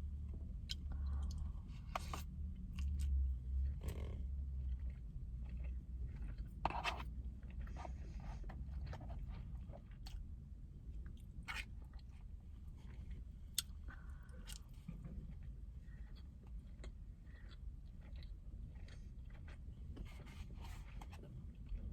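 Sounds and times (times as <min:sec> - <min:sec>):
steady low hum: 0:00.0 - 0:21.9
person chewing food: 0:00.2 - 0:10.3, 0:10.9 - 0:21.9.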